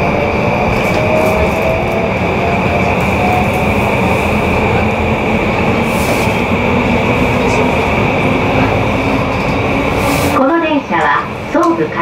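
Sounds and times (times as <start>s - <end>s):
electric train rumble: 0.0s - 12.0s.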